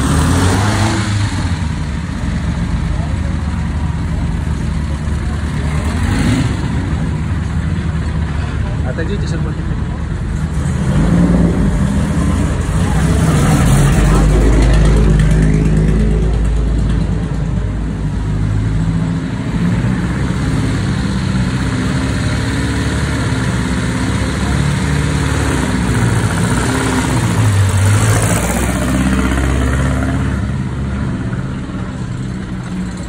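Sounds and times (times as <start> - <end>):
car engines running: 0.0 - 33.0.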